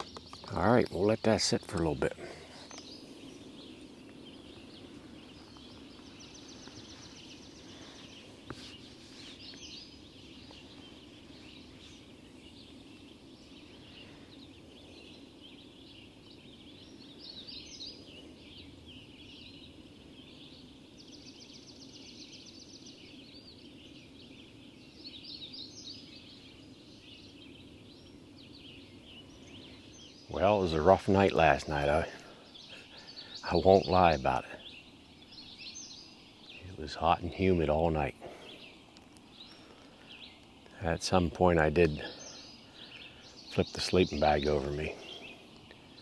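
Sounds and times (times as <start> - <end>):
birds chirping and warbling: 0.0 - 46.0
low background hiss: 0.0 - 46.0.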